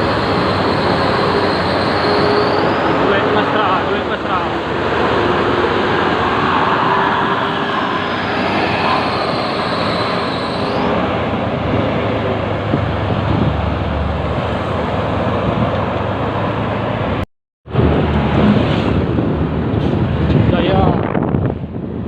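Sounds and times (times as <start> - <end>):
buses passing close by: 0.0 - 22.0
engine and tyre noise: 0.0 - 22.0.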